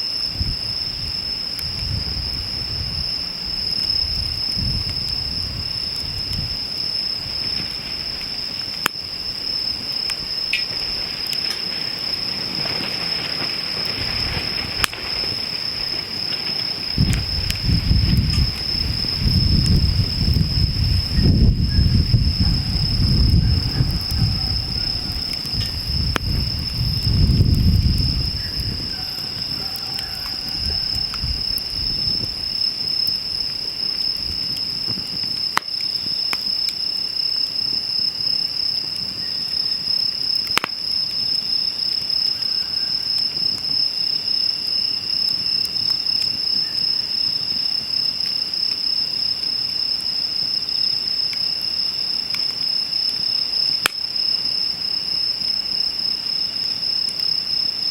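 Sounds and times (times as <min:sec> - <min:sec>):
crickets chirping: 0:00.0 - 0:57.9
wood fire popping: 0:00.2 - 0:57.9.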